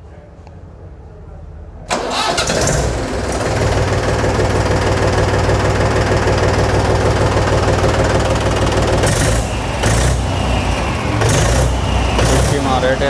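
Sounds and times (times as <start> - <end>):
tractor diesel engine idling: 1.9 - 13.0.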